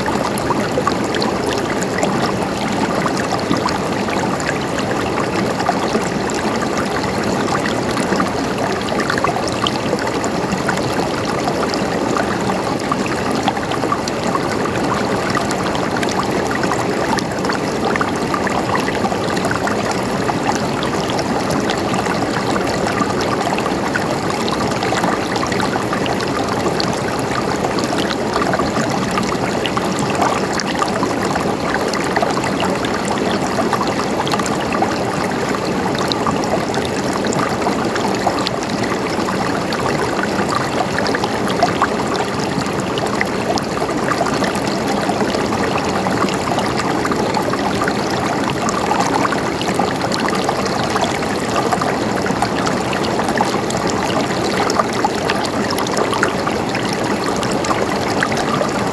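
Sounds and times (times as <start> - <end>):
water gurgling trickle: 0.0 - 58.9.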